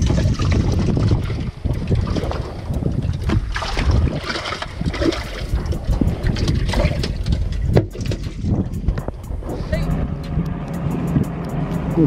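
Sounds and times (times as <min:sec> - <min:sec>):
water splashing: 0:00.0 - 0:10.8
wind buffeting microphone: 0:00.0 - 0:12.0.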